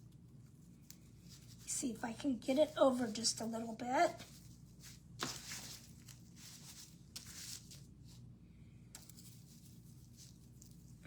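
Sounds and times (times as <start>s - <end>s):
dried plant stems rustling: 0.0s - 11.0s.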